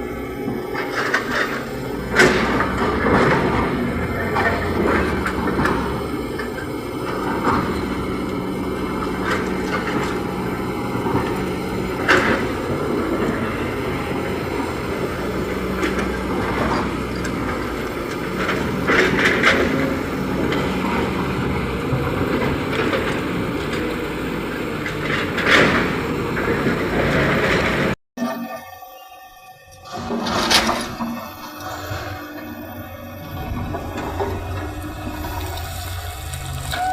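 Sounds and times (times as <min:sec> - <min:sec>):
diesel engine running: 0:00.0 - 0:28.0, 0:29.9 - 0:36.9.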